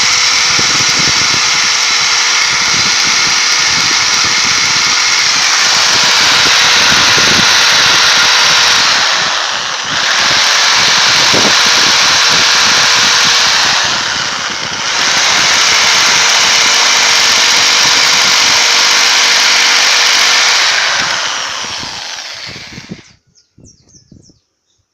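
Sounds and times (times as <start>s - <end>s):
electric drill running: 0.0s - 23.2s.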